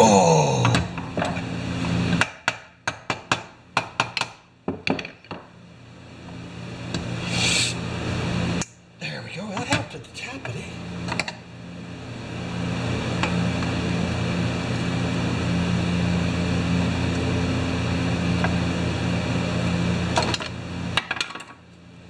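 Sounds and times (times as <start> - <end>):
motor hum: 0.0 - 2.3, 5.3 - 22.0.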